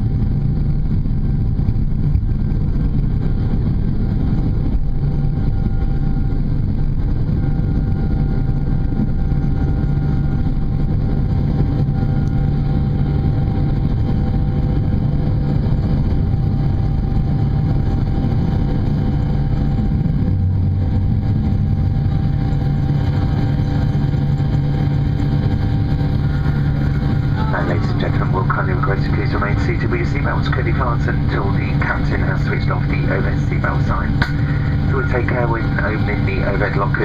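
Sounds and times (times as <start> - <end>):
jet engines rumbling in cabin: 0.0 - 37.0.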